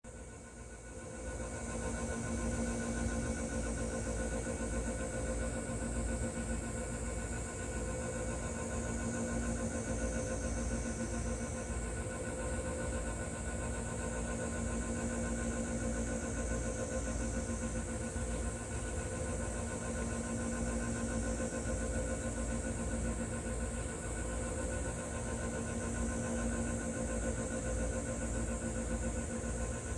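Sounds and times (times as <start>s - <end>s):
constant hum and hiss: 0.0s - 29.9s.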